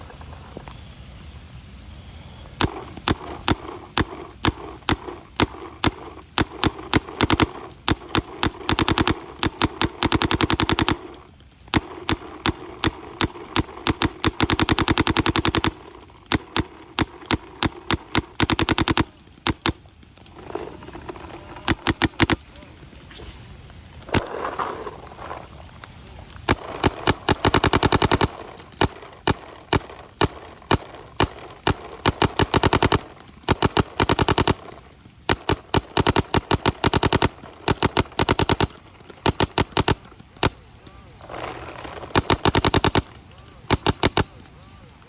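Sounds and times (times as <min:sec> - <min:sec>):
paintball marker firing: 0:02.6 - 0:22.5, 0:26.4 - 0:44.7.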